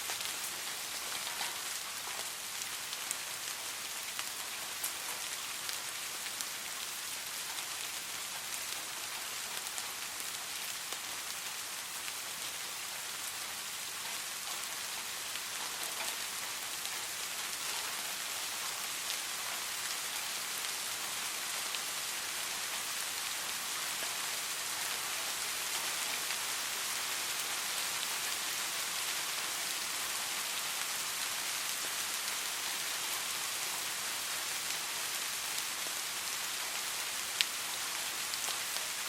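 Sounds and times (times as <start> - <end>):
soft steady rain hiss: 0.0 - 39.0.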